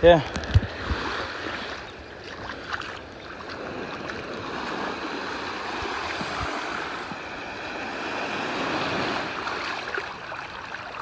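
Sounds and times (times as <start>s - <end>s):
small waves washing over sand: 0.0s - 11.0s.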